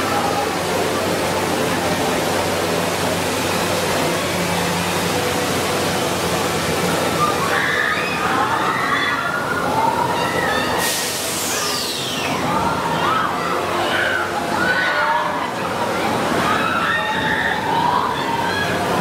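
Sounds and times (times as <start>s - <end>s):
fountain jets splashing: 0.0s - 19.0s
voices: 0.0s - 19.0s.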